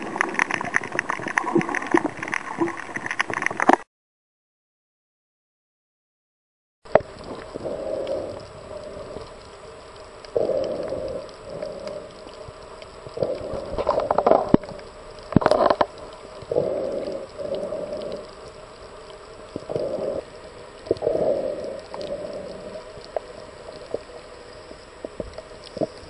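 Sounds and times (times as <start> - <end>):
muffled underwater gurgling: 0.0 - 3.8, 6.9 - 26.0
sharp clicks underwater: 0.0 - 3.9, 6.9 - 26.0.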